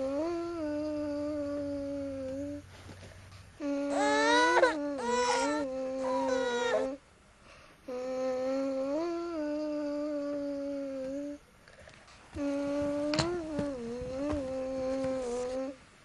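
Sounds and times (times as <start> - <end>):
person humming slow melody: 0.0 - 2.7, 3.6 - 7.0, 7.8 - 11.5, 12.3 - 15.8.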